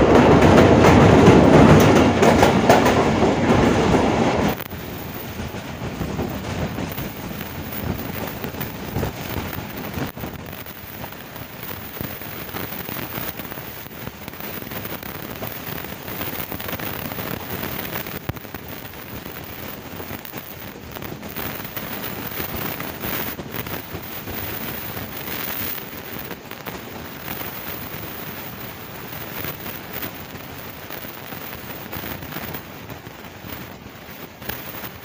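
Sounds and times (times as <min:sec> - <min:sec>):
train wheels on rails: 0:00.0 - 0:35.0.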